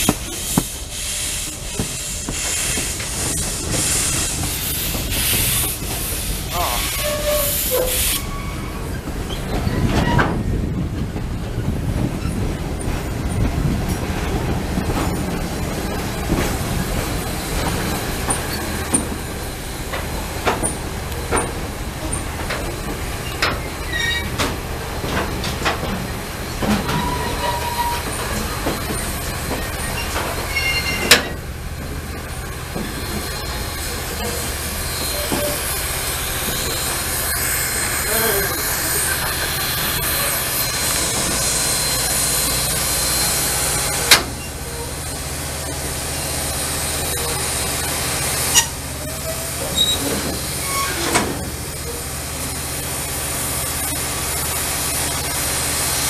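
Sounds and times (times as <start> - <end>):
clanks and knocks of train wheels: 0.0 - 56.0
train rumbling past: 0.0 - 56.0.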